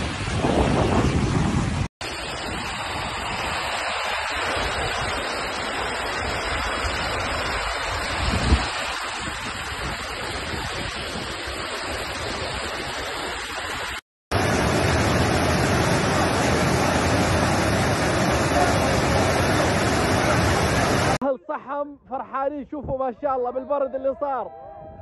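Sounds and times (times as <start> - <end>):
rushing floodwater: 0.0 - 21.2
water cascading down a channel: 0.0 - 21.2.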